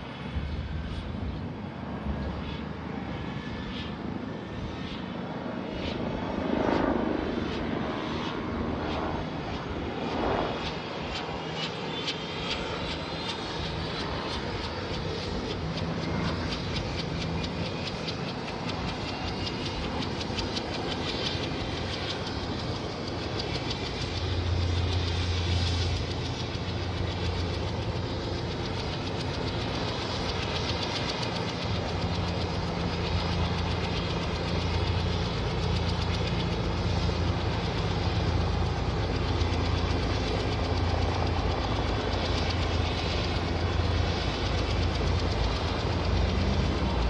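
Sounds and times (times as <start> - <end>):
helicopter engine hum and whine: 0.0 - 47.0
helicopter rotor beating: 0.0 - 47.0.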